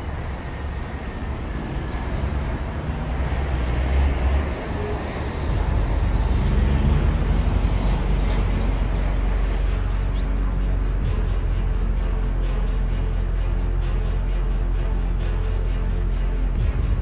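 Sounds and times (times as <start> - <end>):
passing traffic hum: 0.0 - 17.0.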